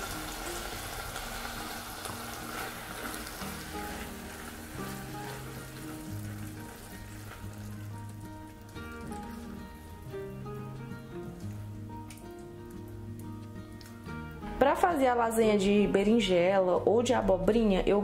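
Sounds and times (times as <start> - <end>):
meat and sauce sizzling in a pan: 0.0 - 14.6
background music with held notes: 0.0 - 18.0.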